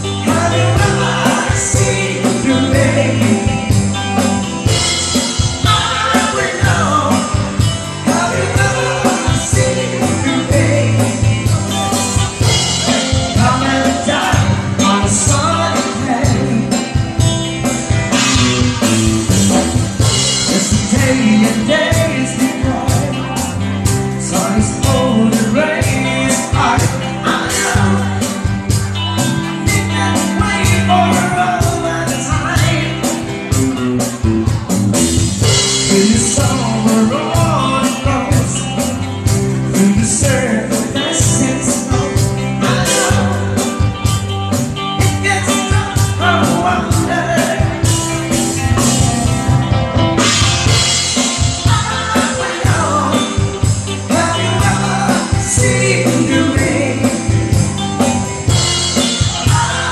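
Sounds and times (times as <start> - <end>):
person singing: 0.0 - 17.3, 18.1 - 34.7, 35.4 - 49.1, 51.2 - 59.9
bass and guitar: 0.0 - 59.9
drum kit beat: 0.0 - 59.9.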